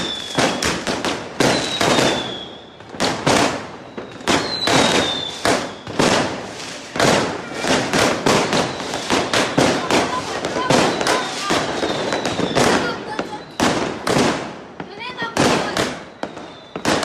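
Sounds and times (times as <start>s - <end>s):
firework whistles falling in pitch: 0.0s - 13.8s, 15.6s - 17.0s
fireworks banging and crackling: 0.0s - 17.0s.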